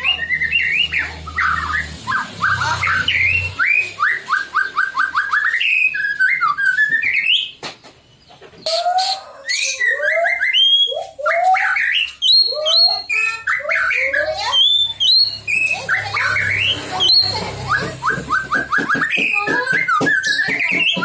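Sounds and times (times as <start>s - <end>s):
bird singing whistled song: 0.0s - 7.7s, 8.6s - 21.0s.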